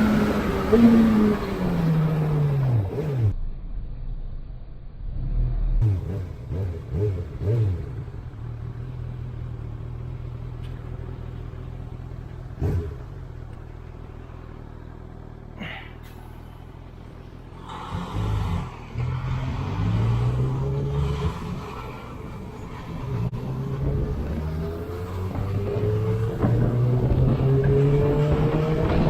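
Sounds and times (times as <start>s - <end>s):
motorcycle engine revving: 0.0s - 3.4s, 5.0s - 15.8s, 17.8s - 29.0s.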